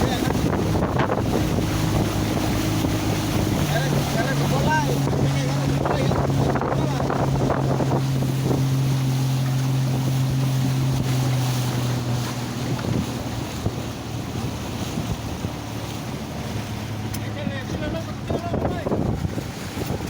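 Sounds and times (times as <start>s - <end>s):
boat motor running: 0.0s - 20.0s
wind buffeting microphone: 0.0s - 20.0s.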